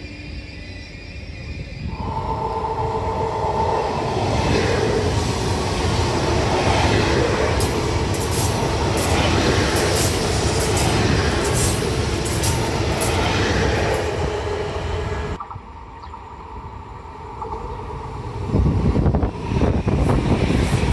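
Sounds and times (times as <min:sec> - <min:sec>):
train rushing rumble: 0:01.6 - 0:15.4, 0:16.6 - 0:20.9.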